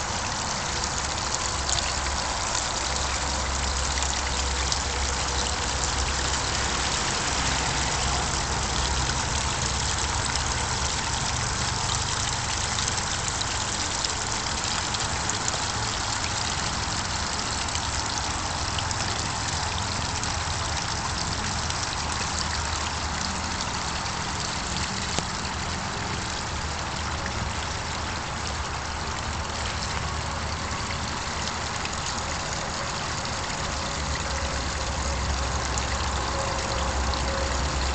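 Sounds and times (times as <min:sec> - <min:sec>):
waterfall splashing over rocks: 0:00.0 - 0:37.9.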